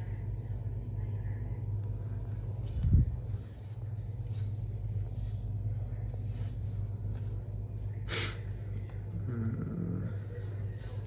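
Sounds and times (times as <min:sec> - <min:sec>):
boiler humming: 0:00.0 - 0:11.0.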